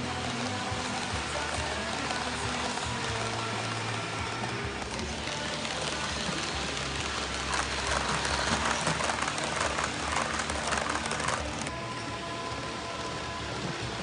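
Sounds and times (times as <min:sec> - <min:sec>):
model train wheels clattering: 0:00.0 - 0:11.7.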